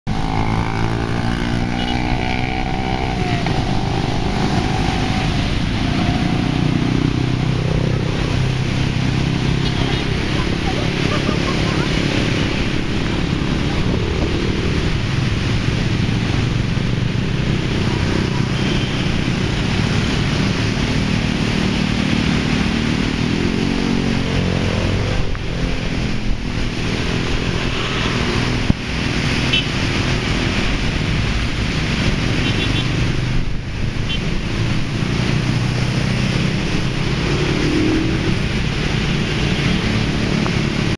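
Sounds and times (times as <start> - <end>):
traffic engines running: 0.0 - 40.9.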